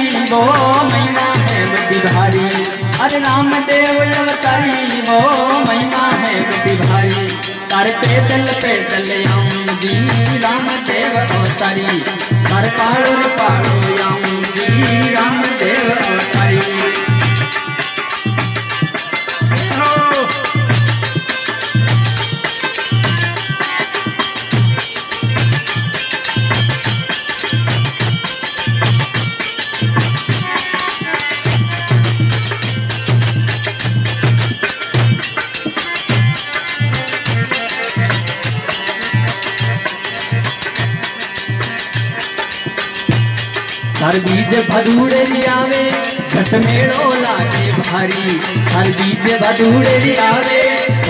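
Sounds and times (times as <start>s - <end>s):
fast drum beat: 0.0s - 51.0s
harmonium melody: 0.0s - 51.0s
metallic jingling hand percussion: 0.0s - 51.0s.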